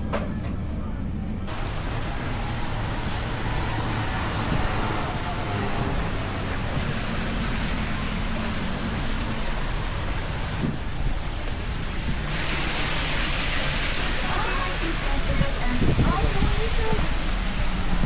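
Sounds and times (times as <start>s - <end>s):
heavy rain hissing: 1.5s - 18.0s.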